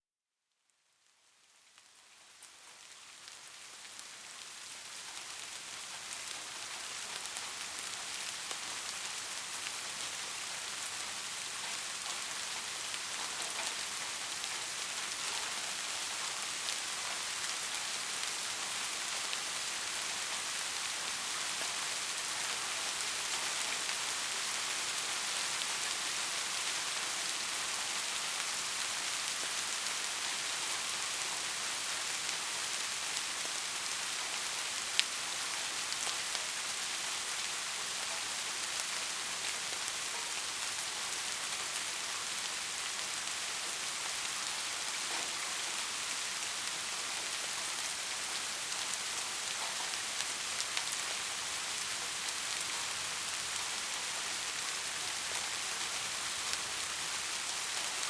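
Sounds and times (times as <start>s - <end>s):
steady rain falling: 0.5s - 58.0s.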